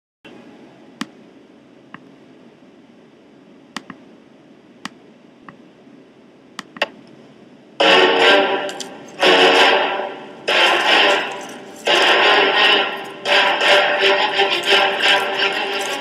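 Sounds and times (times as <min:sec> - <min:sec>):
room hiss: 0:00.3 - 0:16.0.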